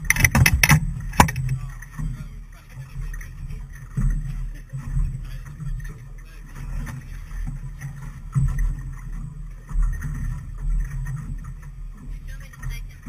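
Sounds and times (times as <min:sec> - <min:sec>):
low uneven boat rumble: 0:00.0 - 0:13.0.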